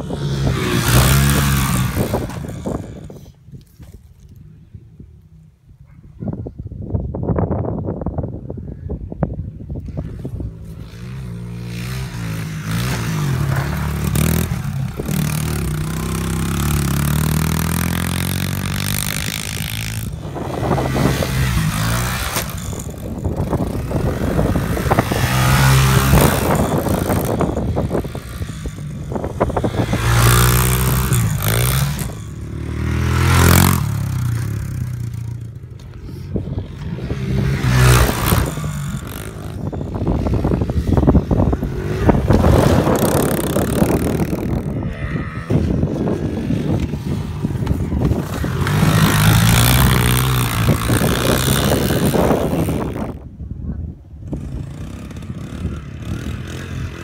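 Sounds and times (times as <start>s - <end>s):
small motorcycle engine revving: 0.0s - 3.2s, 9.8s - 53.3s, 54.2s - 57.0s
motorcycle passing close: 0.0s - 3.3s, 9.7s - 53.4s, 54.2s - 57.0s.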